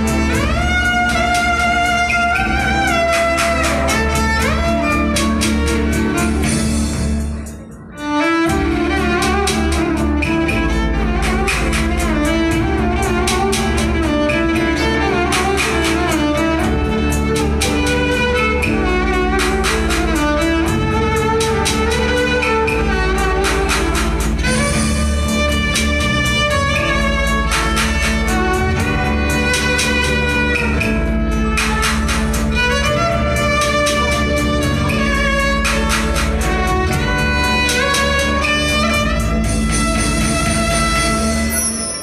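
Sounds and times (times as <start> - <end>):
keyboard accompaniment with beat: 0.0 - 42.0
violin melody: 0.0 - 42.0.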